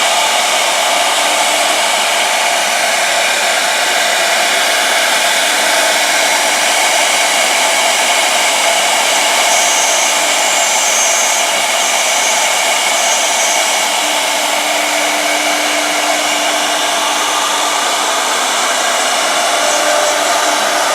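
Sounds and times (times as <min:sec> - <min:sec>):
cnc router running: 0:00.0 - 0:20.9.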